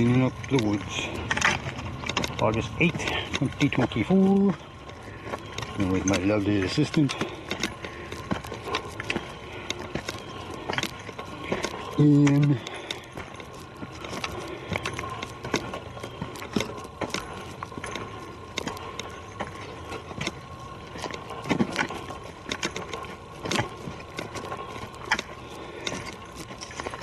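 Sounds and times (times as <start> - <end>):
faint steady hum: 0.0 - 27.0
footsteps on forest trail: 0.0 - 27.0.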